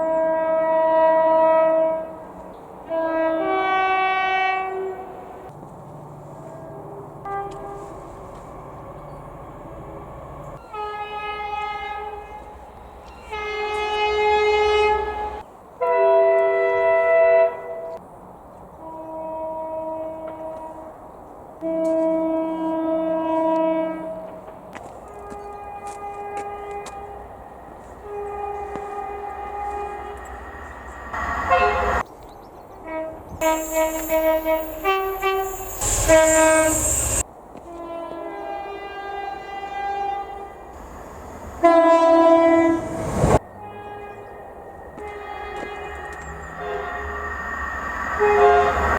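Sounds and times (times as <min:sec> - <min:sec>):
locomotive air horn blasts: 0:00.0 - 0:05.5, 0:06.4 - 0:08.6, 0:10.6 - 0:12.6, 0:13.2 - 0:18.0, 0:18.8 - 0:21.0, 0:21.6 - 0:32.0, 0:32.8 - 0:48.9
train rumbling: 0:00.0 - 0:15.8, 0:17.5 - 0:48.9.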